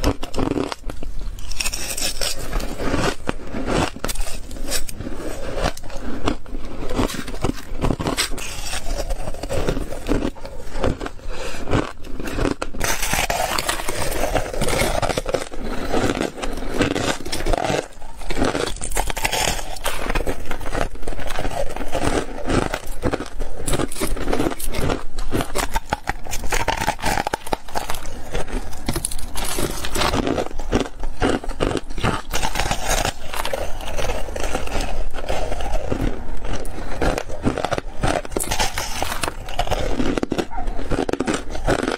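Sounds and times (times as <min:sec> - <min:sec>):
ice crunching being chewed: 0:00.0 - 0:41.9.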